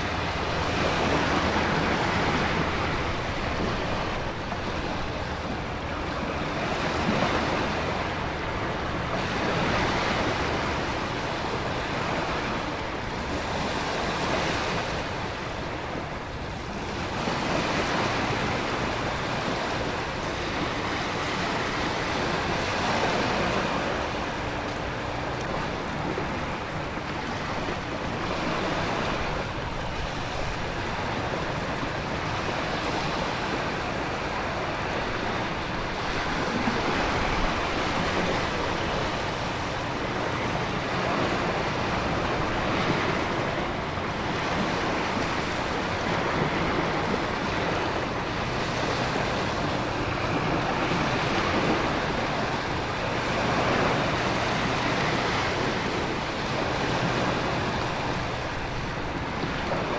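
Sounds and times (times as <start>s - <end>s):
ocean surf breaking: 0.0s - 59.9s
wind: 0.0s - 59.9s.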